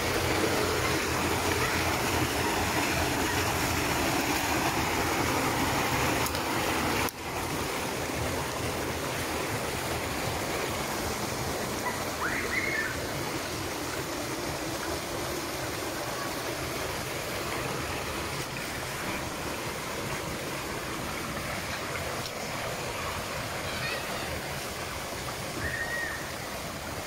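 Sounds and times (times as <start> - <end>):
stream flowing over rocks: 0.0 - 27.0.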